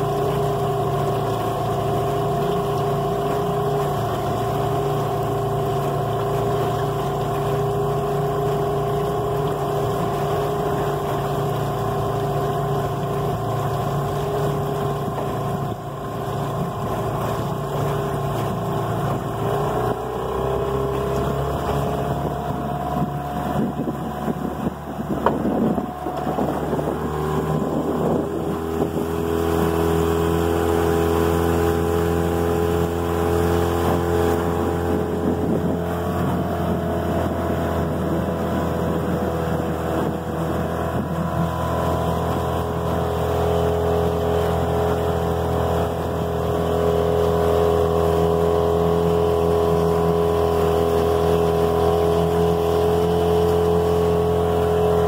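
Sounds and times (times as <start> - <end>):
small boat motor running: 0.0 - 55.0
wind and water rushing: 0.0 - 55.0.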